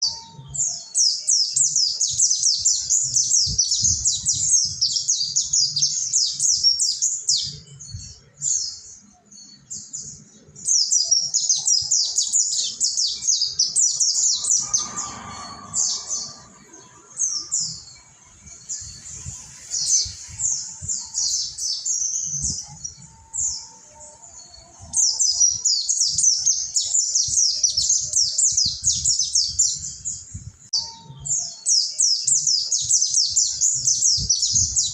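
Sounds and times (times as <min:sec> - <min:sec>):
birds twittering: 0:00.0 - 0:34.9.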